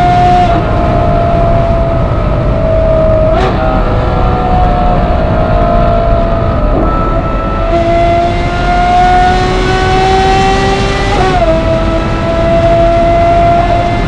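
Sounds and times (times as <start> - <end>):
car engine at high speed: 0.0 - 14.0
wind and road noise: 0.0 - 14.0.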